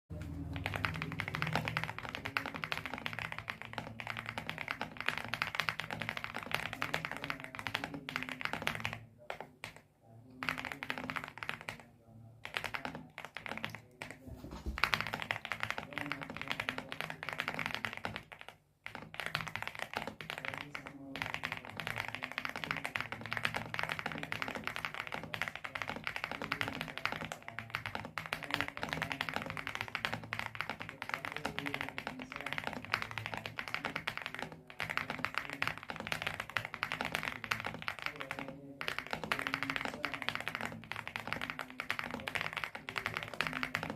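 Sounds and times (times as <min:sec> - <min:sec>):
mechanical keyboard typing: 0:00.1 - 0:09.8, 0:10.4 - 0:43.9.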